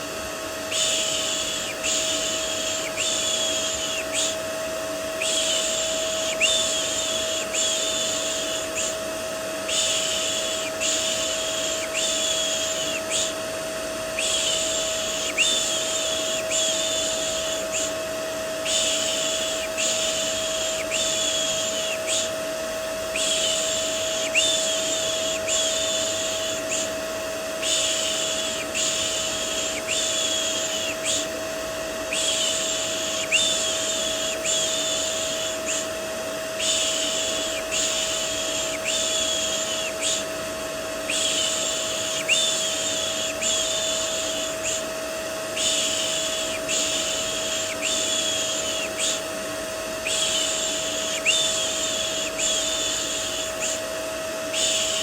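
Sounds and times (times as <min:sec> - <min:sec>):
vacuum cleaner hum and hiss: 0:00.0 - 0:55.0.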